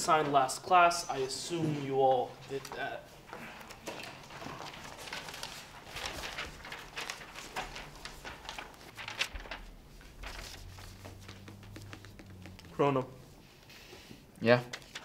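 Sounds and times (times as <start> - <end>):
paper rustling: 2.3 - 15.0.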